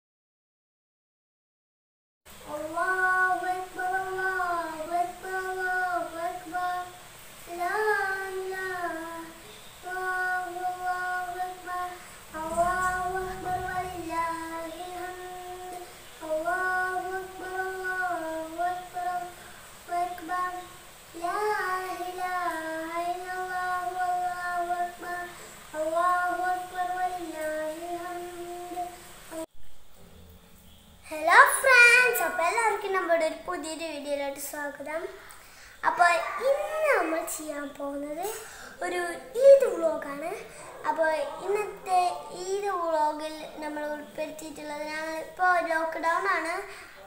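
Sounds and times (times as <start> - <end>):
boy singing: 2.4 - 29.4, 31.1 - 35.2, 35.8 - 47.0.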